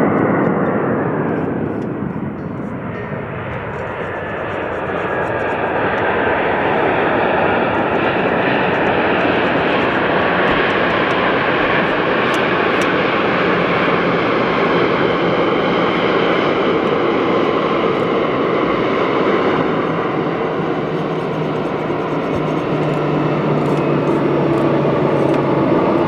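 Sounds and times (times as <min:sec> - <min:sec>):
airliner engines running: 0:00.0 - 0:26.0.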